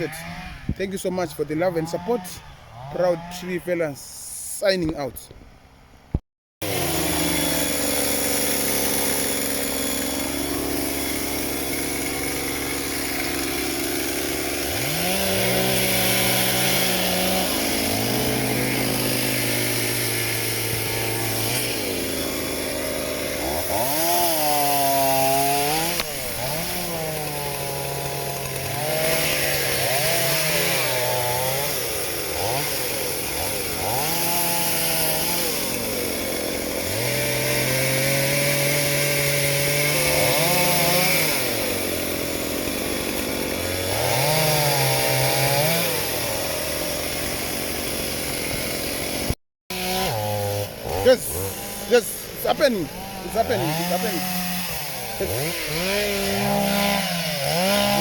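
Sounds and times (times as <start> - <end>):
chainsaw revving: 0.0 - 3.8, 6.6 - 58.0.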